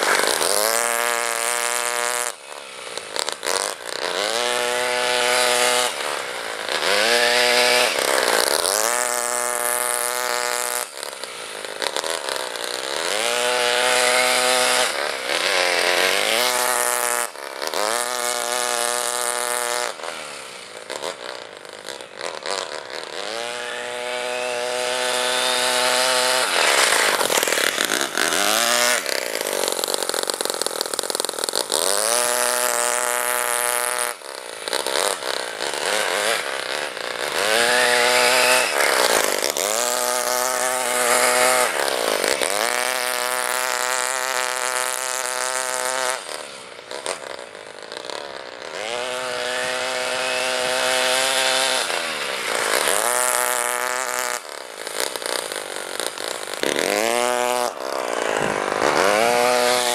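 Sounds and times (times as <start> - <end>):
model engine revving: 0.0 - 59.9.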